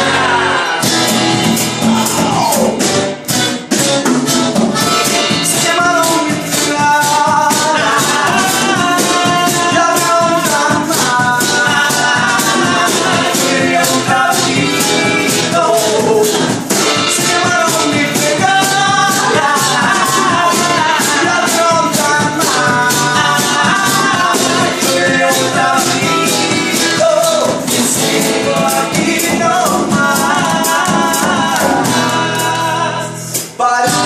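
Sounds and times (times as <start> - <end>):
band playing live: 0.0 - 34.0
steady percussion beat: 0.8 - 34.0.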